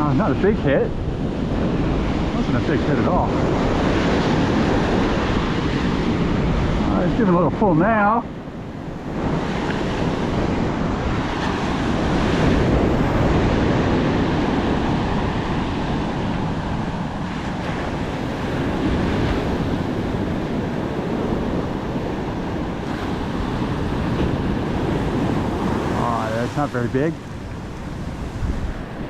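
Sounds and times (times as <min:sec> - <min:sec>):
ocean surf on beach: 0:00.0 - 0:29.0
wind buffeting microphone: 0:00.0 - 0:29.0.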